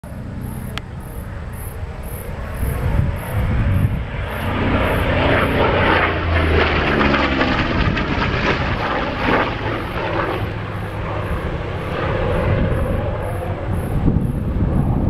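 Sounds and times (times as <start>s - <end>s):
propeller plane droning past: 0.0s - 15.0s.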